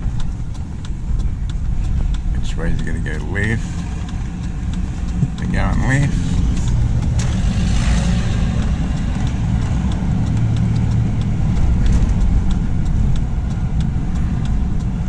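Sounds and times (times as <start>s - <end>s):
car engine and road noise: 0.0s - 15.0s
faint light ticks: 0.0s - 15.0s.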